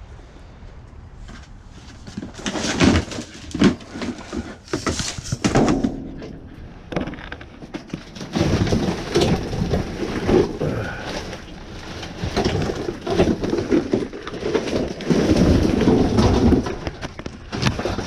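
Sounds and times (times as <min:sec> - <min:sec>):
junk being rummaged by hand: 0:01.2 - 0:18.0.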